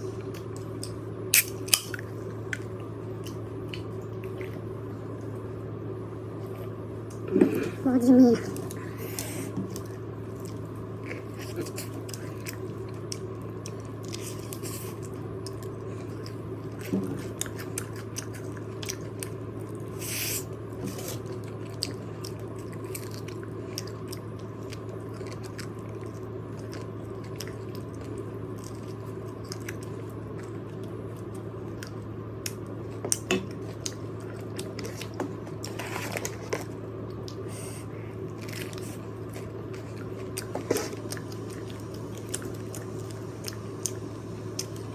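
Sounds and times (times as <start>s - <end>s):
low hum: 0.0s - 44.9s
crunching fried chicken: 8.5s - 44.9s.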